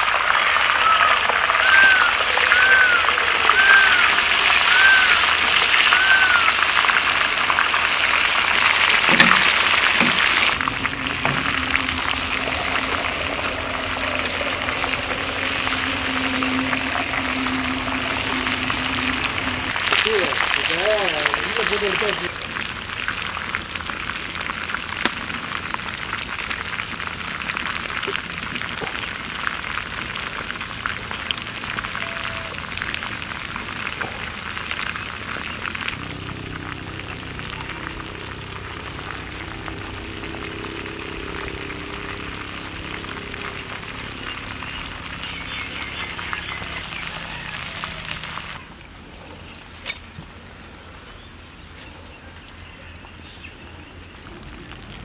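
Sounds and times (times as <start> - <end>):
food sizzling in hot oil: 0.0 - 48.6.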